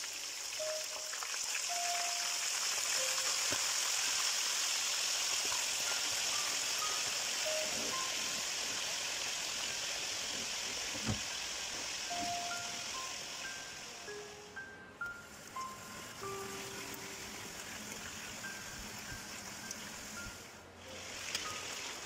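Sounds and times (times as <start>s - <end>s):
food sizzling in hot oil: 0.0s - 22.0s
light background music: 0.6s - 10.4s, 12.0s - 22.0s.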